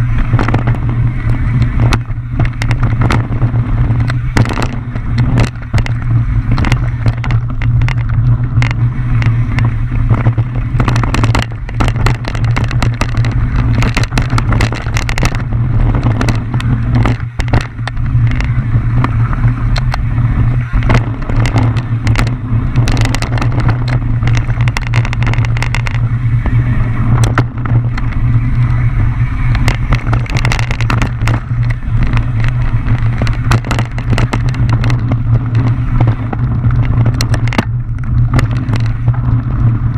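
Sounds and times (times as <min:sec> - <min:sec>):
bike clattering over bumps: 0:00.0 - 0:39.9
bike riding rumble: 0:00.0 - 0:39.9.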